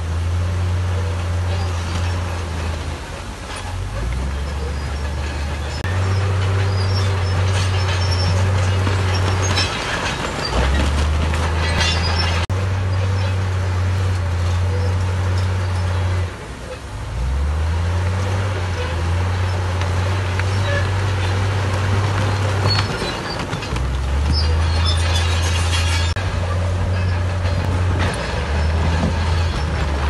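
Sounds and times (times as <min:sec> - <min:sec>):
diesel engine droning: 0:00.0 - 0:30.0
rattling clatter: 0:01.1 - 0:16.2, 0:18.5 - 0:30.0.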